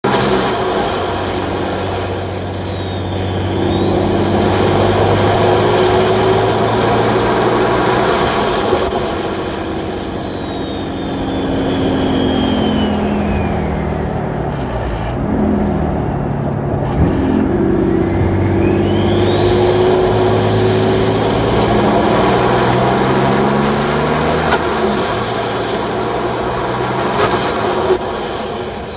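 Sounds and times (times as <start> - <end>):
high turbo whistle: 0.0 - 15.0, 17.1 - 28.9
diesel car engine: 0.0 - 28.9.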